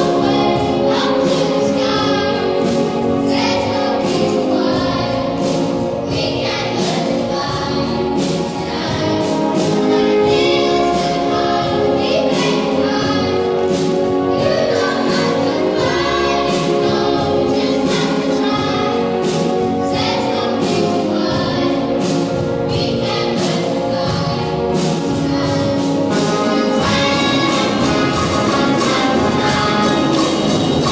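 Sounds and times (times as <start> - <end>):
children's choir singing: 0.0 - 30.9
symphony orchestra: 0.0 - 30.9.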